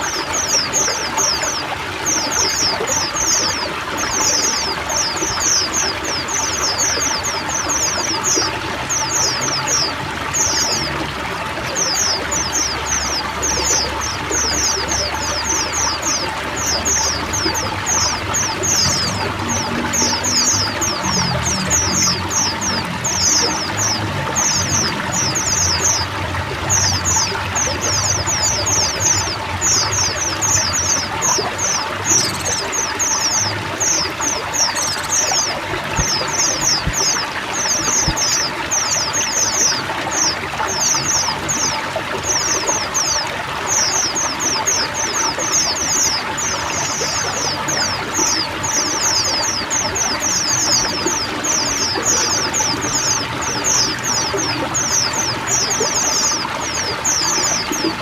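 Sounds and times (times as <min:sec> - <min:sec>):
birds twittering: 0:00.0 - 0:58.0
trickling water: 0:00.0 - 0:58.0.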